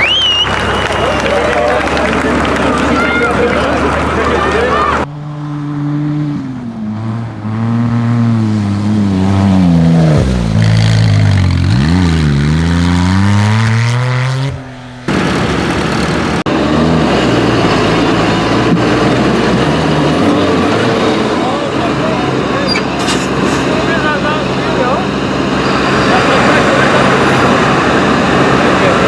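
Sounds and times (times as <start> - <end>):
rough noisy engine running: 0.0 - 29.0
tractor engine revving: 0.0 - 29.0.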